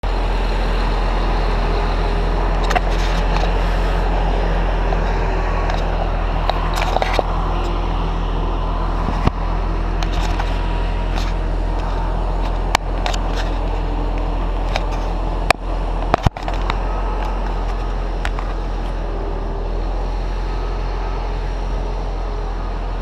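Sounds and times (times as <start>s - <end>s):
heavy engine running: 0.0s - 23.0s.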